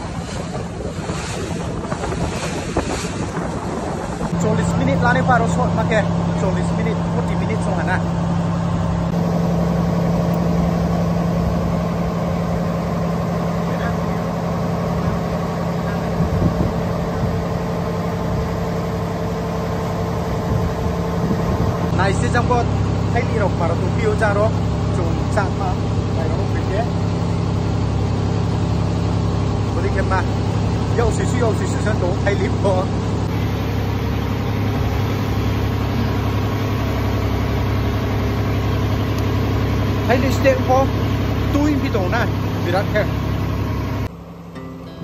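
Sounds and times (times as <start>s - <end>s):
water churning past hull: 0.0s - 44.1s
boat engine humming: 0.0s - 45.0s.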